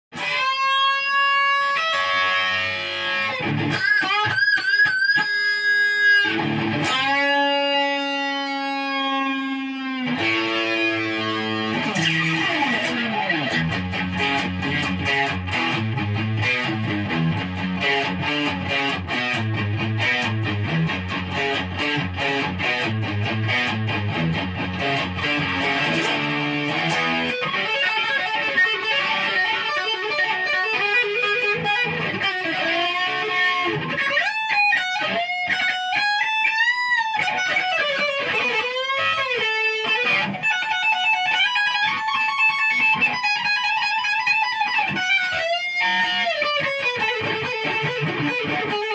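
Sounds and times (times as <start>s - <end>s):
electric guitar playing: 0.1s - 48.9s.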